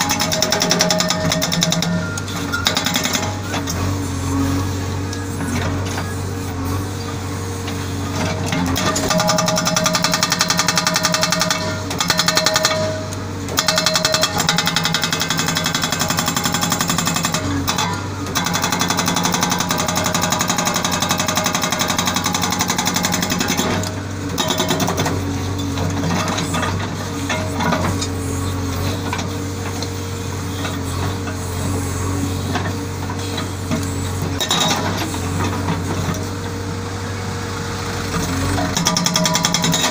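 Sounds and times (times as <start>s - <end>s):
hydraulic rock breaker hammering rock: 0.0s - 6.8s, 7.7s - 36.5s, 38.1s - 39.9s
diesel engine running: 0.0s - 39.9s.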